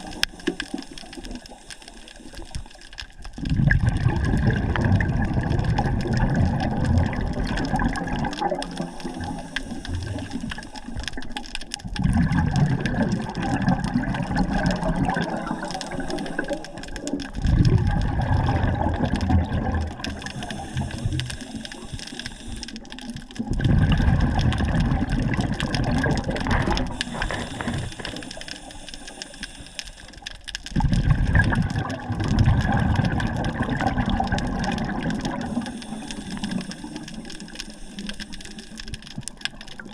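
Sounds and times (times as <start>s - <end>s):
diver's bubbles gurgling underwater: 0.0s - 39.9s
steady underwater hiss: 0.0s - 39.9s.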